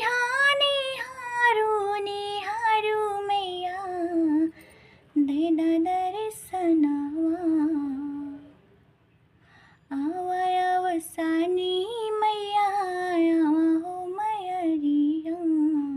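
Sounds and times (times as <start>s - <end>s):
woman singing unaccompanied folk song: 0.0s - 4.6s, 5.2s - 8.5s, 9.9s - 15.9s.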